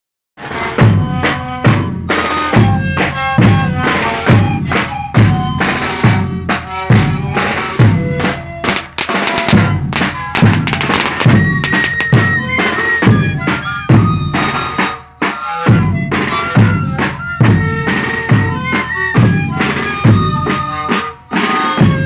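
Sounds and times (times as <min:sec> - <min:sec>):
bass drums beating: 0:00.4 - 0:14.7, 0:15.4 - 0:20.8
panpipes playing short notes: 0:00.4 - 0:22.0.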